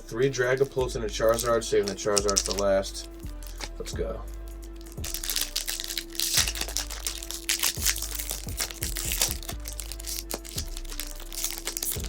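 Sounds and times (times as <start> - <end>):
background music: 0.0 - 12.0
foil wrapper crinkling and tearing: 0.3 - 12.0.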